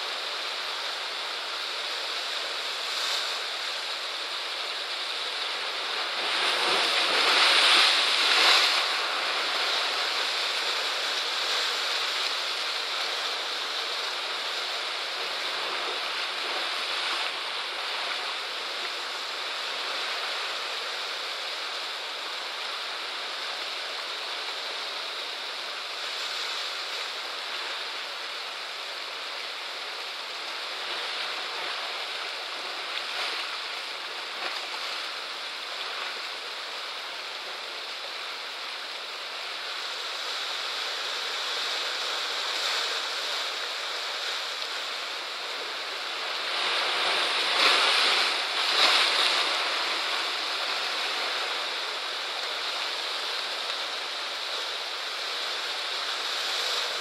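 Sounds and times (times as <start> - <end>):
sea waves washing on rocks: 0.0 - 57.0
waves crashing: 0.0 - 57.0.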